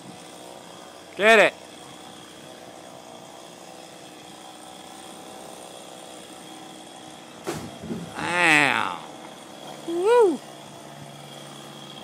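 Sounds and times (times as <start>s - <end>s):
faint chainsaw running: 0.0s - 12.0s.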